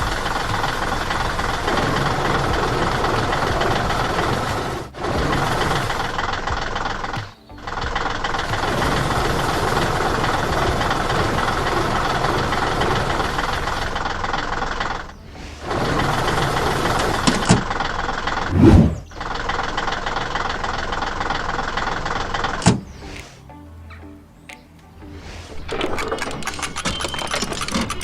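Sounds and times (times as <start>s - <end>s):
cartoon machine engine running: 0.0s - 22.6s, 25.7s - 28.0s.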